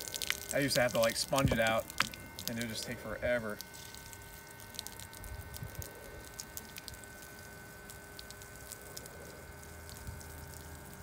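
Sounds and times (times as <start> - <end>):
pump humming: 0.0 - 11.0.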